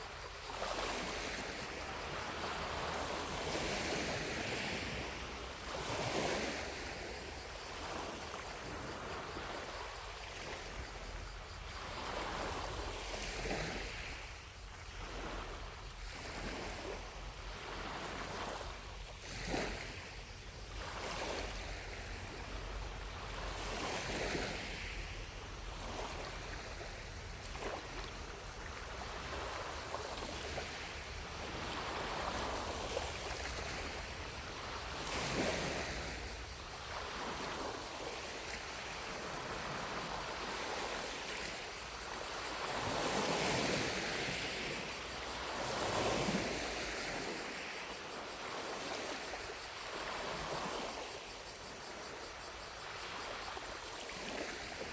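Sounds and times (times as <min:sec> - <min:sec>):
distant cicadas droning: 0:00.0 - 0:54.9
waves lapping against shore: 0:00.0 - 0:54.9.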